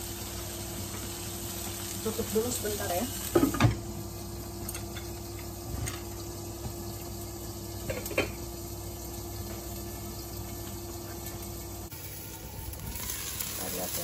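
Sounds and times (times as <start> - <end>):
food simmering in a wok: 0.0 - 14.0.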